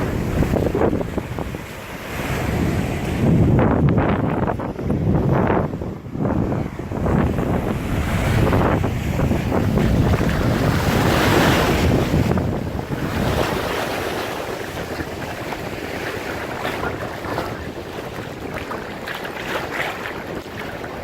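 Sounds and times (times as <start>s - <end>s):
ocean waves breaking: 0.0s - 21.0s
wind buffeting microphone: 0.0s - 21.0s.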